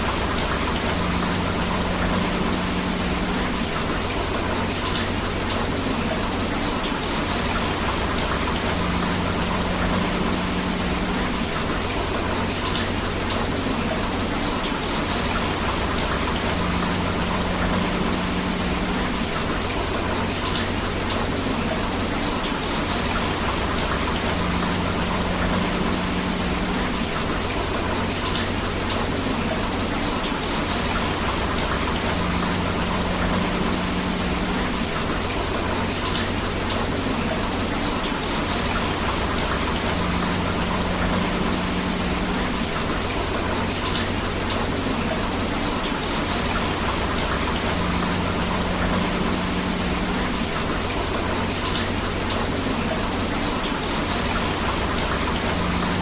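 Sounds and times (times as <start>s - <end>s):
river water running: 0.0s - 56.0s
steady rain: 0.0s - 56.0s.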